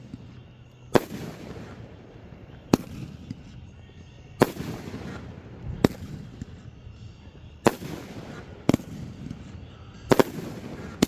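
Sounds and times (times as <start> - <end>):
fireworks bursting with bangs: 0.0 - 11.0
rumbling echo: 0.0 - 11.0.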